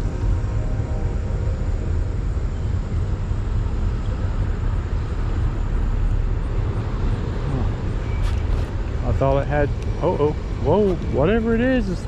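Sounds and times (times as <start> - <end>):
train passing rumble: 0.0 - 12.0.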